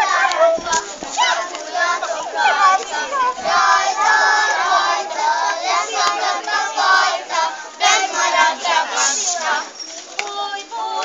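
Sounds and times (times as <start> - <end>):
children singing in chorus: 0.0 - 11.0.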